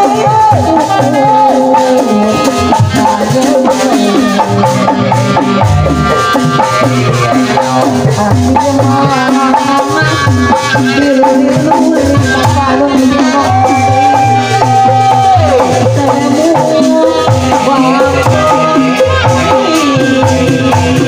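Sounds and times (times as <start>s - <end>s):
fast ornamented melody: 0.0s - 21.0s
percussion: 0.0s - 21.0s.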